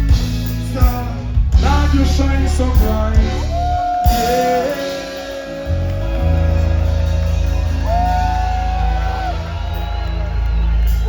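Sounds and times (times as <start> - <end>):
heavy bass line: 0.0 - 11.0
live reggae band playing: 0.0 - 11.0.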